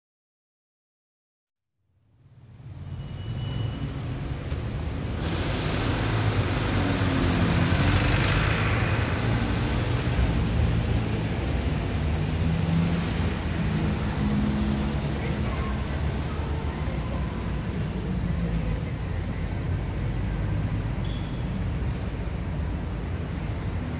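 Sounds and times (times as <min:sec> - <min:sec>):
road traffic rumble and hiss: 0:02.1 - 0:23.9.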